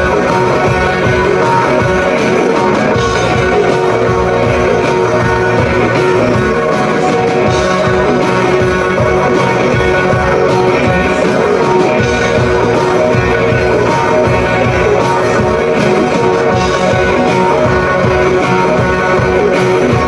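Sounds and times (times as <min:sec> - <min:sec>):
electric guitar: 0:00.0 - 0:20.0
live rock band: 0:00.0 - 0:20.0.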